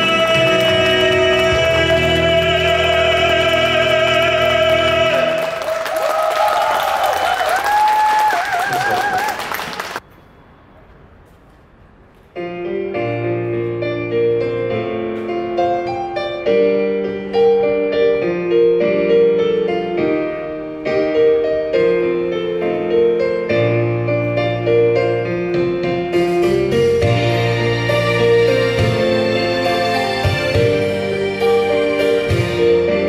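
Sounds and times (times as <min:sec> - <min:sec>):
piano chords and slow melody: 0:00.0 - 0:06.5, 0:12.2 - 0:33.0.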